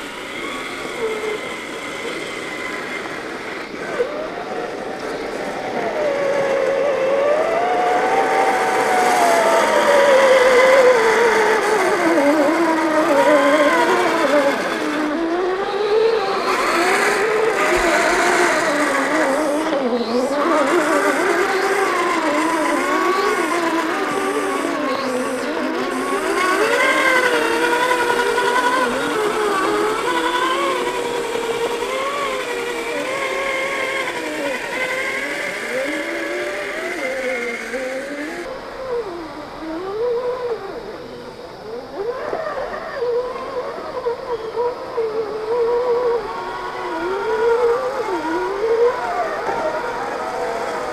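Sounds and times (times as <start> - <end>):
electric toy trucks whining: 0.0 - 50.9.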